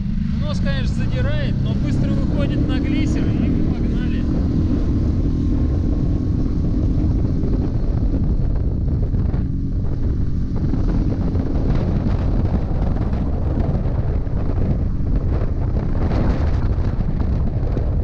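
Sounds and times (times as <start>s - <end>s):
outboard motor running: 0.0s - 18.0s
wind buffeting microphone: 0.0s - 18.0s.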